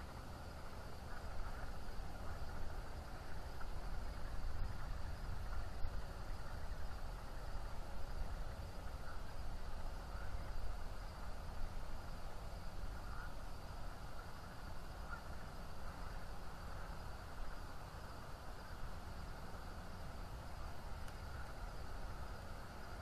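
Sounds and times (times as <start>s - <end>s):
low rumble and hiss: 0.0s - 23.0s.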